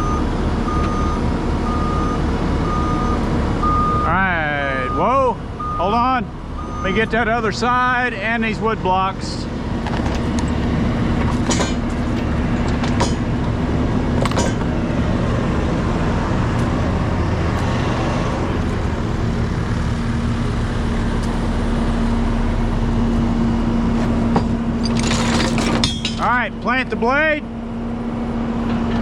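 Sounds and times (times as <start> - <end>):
diesel engines idling: 0.0 - 28.7.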